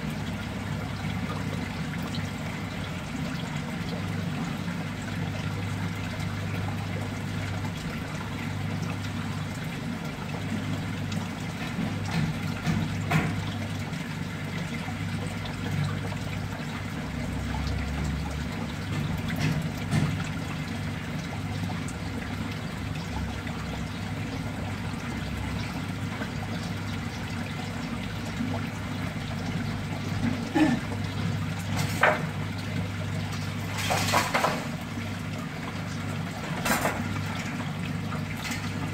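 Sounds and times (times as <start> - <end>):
water trickling into tub: 0.0 - 38.9.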